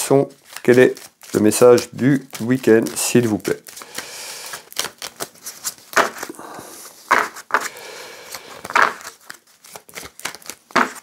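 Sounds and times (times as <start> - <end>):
playing cards shuffled by hand: 0.0 - 11.0.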